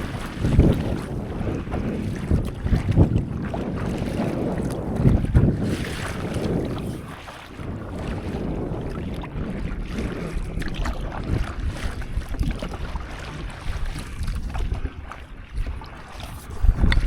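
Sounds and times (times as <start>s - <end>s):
water sloshing and splashing: 0.0s - 17.0s
wind buffeting microphone: 0.0s - 17.0s.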